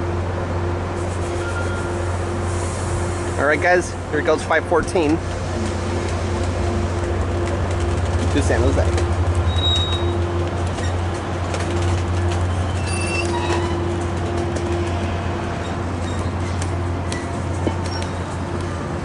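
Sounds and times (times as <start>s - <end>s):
diesel locomotive engine throbbing: 0.0s - 19.0s
train wheels clicking: 3.0s - 18.8s.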